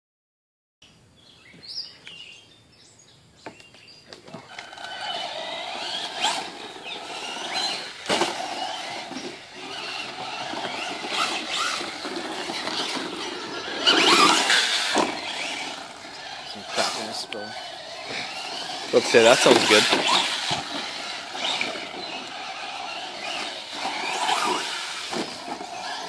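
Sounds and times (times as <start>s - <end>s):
tyres on gravel: 4.0s - 26.0s
rc truck motor whine: 4.3s - 26.0s.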